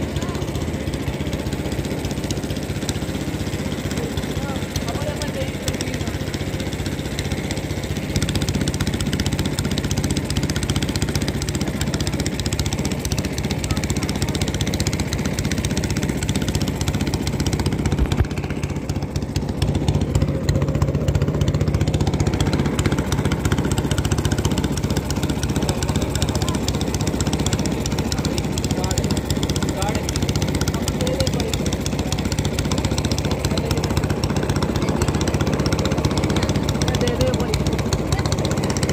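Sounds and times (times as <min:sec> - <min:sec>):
boat engine chugging: 0:00.0 - 0:38.9.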